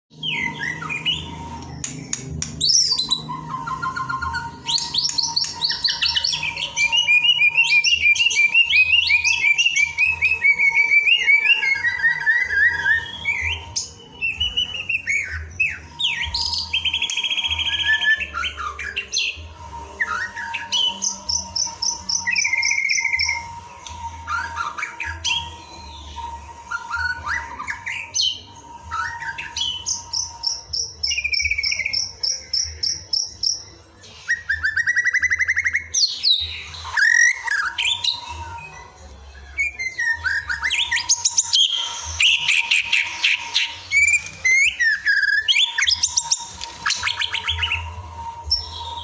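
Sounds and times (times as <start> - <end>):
bird singing: 0.1 - 49.0.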